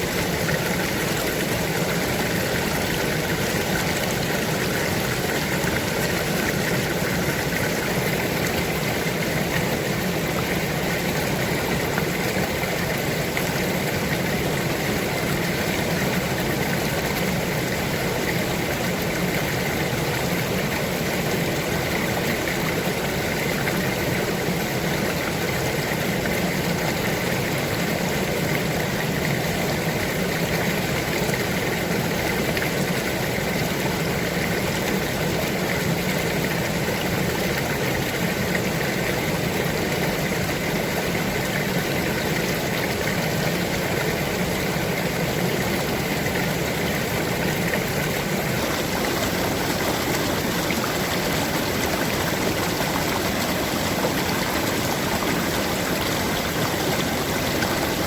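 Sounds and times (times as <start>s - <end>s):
flowing stream water: 0.0s - 58.0s.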